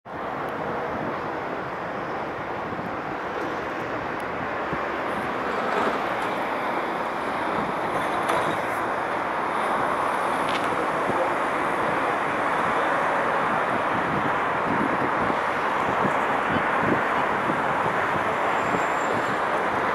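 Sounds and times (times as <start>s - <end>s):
city traffic roar: 0.0s - 19.9s.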